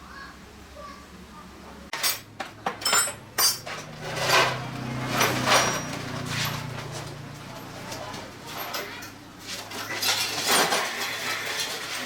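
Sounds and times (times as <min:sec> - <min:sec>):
metal objects clinking: 0:02.0 - 0:12.0
metal scraping: 0:02.0 - 0:12.0.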